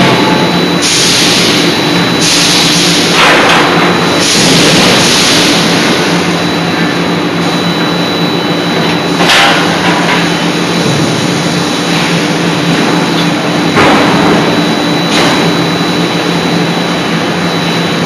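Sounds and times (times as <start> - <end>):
forging hammer humming and hissing: 0.0 - 18.0.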